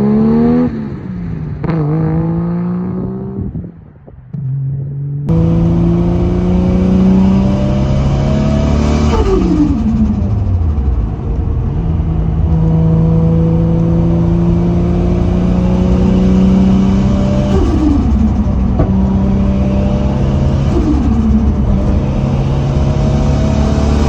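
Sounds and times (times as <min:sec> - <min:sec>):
turbocharged engine under load: 0:00.0 - 0:24.0.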